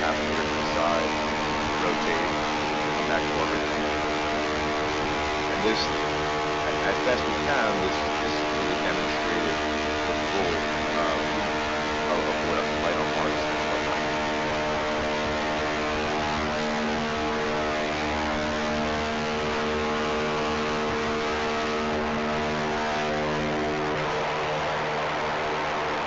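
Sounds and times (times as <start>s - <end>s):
helicopter rotors buzzing: 0.0s - 26.0s.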